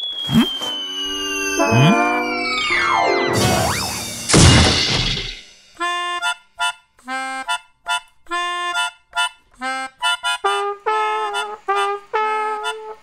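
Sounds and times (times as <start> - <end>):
reedy wind instrument cartoon music: 0.0 - 4.4, 5.7 - 13.0.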